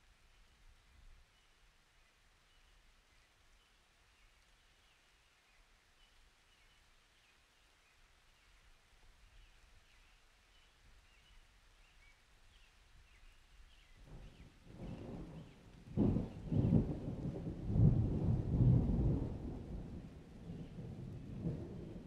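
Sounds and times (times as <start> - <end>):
small birds chirping faintly: 0.0 - 22.0.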